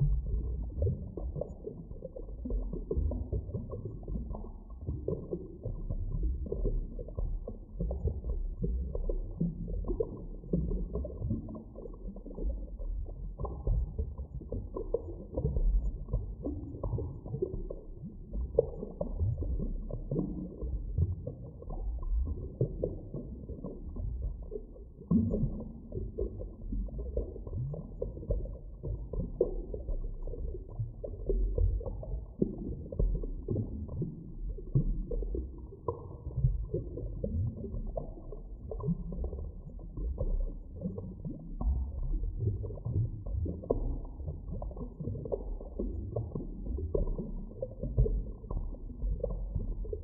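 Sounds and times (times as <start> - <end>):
underwater rumble of moving water: 0.0 - 50.0.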